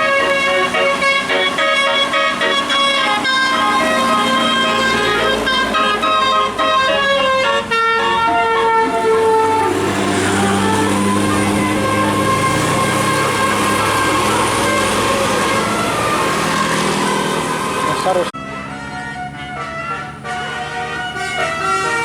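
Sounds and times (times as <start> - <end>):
bus musical horn playing a tune: 0.0 - 22.0.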